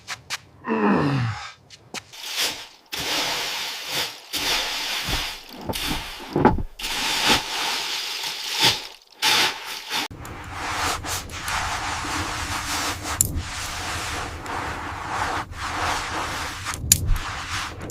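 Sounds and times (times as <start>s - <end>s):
hand tool rasping strokes: 2.2s - 17.9s.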